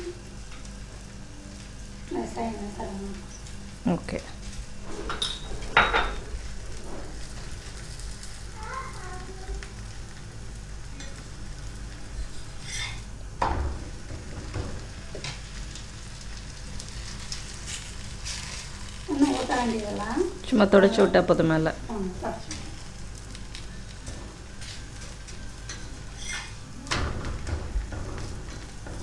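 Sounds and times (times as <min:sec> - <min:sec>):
flatbread sizzling on griddle: 0:00.0 - 0:21.2, 0:21.9 - 0:29.0.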